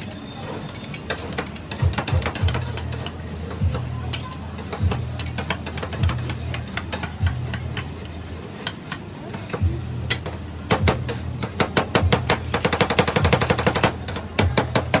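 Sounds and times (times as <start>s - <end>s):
metal spatulas clacking on cold plate: 0.0s - 15.0s.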